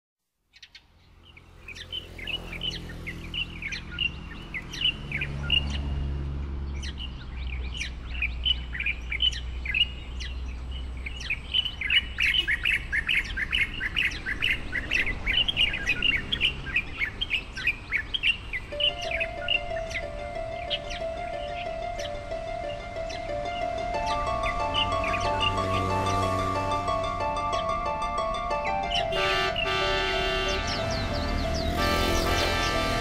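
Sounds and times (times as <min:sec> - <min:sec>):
birds chirping: 0:00.5 - 0:33.0.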